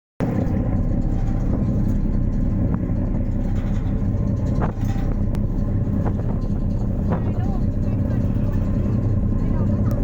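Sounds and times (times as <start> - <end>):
ferry engine rumble: 0.2 - 10.0.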